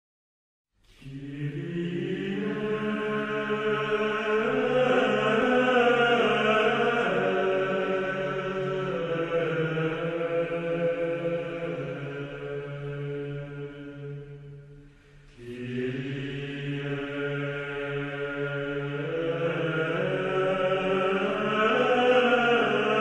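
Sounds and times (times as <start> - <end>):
choir chanting: 1.0 - 14.7, 15.3 - 23.0.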